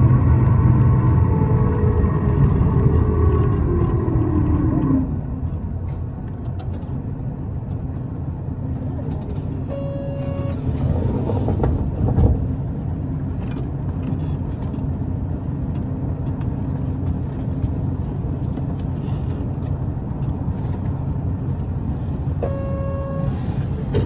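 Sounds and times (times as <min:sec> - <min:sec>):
bus diesel engine: 0:00.0 - 0:24.0
road rumble: 0:00.0 - 0:24.0.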